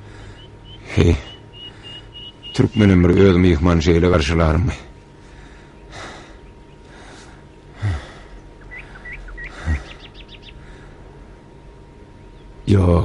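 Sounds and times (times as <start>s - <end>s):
high bird trill: 0.0s - 4.1s, 4.9s - 12.7s
birds chirping: 0.0s - 13.0s.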